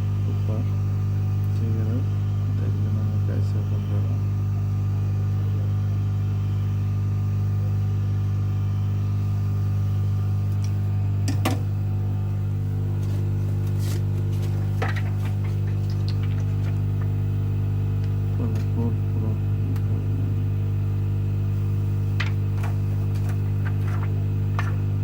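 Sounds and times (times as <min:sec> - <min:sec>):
heat tool electrical hum: 0:00.0 - 0:25.0.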